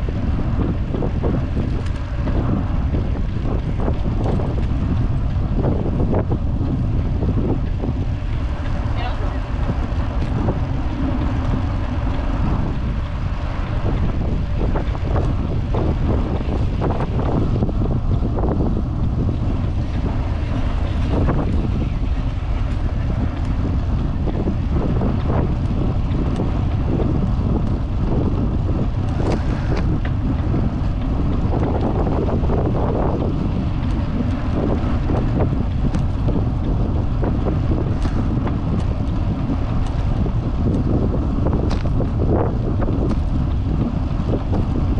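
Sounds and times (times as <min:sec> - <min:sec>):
bicycle knocks and rattles: 0:00.0 - 0:44.9
tyre rumble: 0:00.0 - 0:44.9
wind buffeting microphone: 0:00.0 - 0:44.9.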